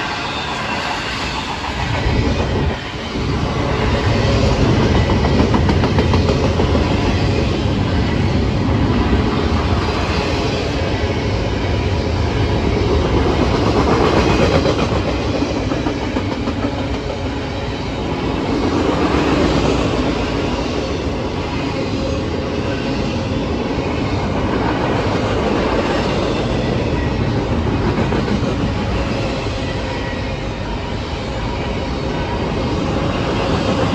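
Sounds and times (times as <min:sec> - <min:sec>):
train cars rumbling on rails: 0:00.0 - 0:33.9.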